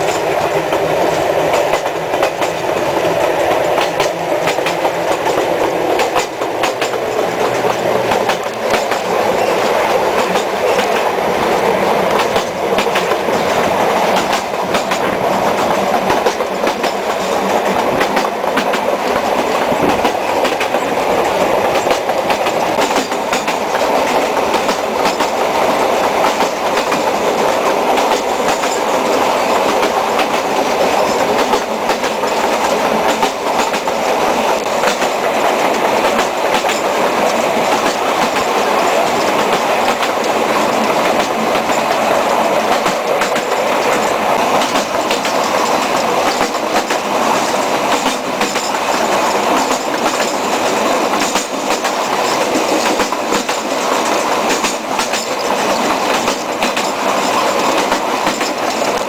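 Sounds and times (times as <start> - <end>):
clickety-clack of train: 0.0 - 59.0
train wheels rumbling on rail: 0.0 - 59.0.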